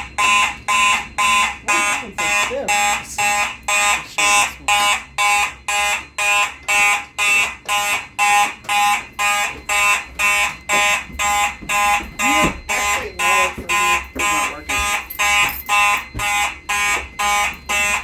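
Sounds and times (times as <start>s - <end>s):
pulsing fire alarm: 0.0s - 18.0s.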